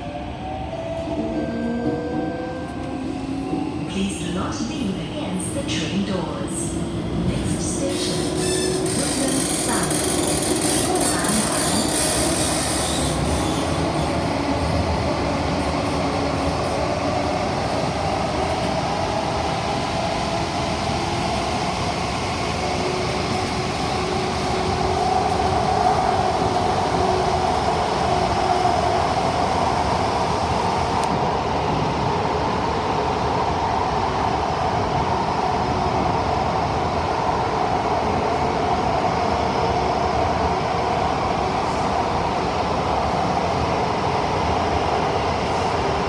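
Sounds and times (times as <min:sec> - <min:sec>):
train wheels rumbling on rail: 0:00.9 - 0:46.0.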